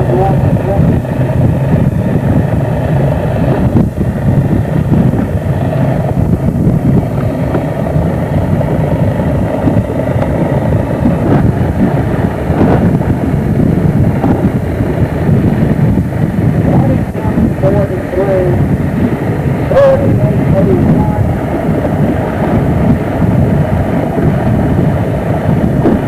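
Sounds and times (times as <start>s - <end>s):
boat engine rumbling: 0.0s - 26.0s
wind buffeting microphone: 0.0s - 26.0s.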